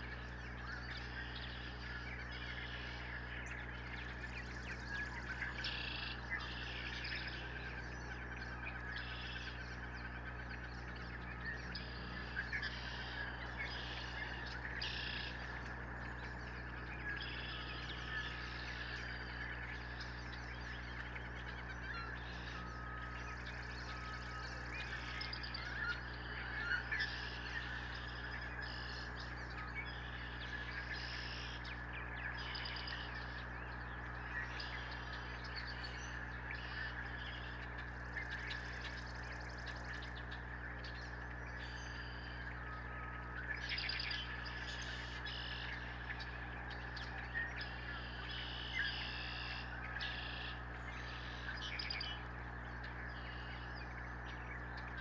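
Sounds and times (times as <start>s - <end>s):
small birds chirping: 0.0s - 55.0s
steady low hum: 0.0s - 55.0s.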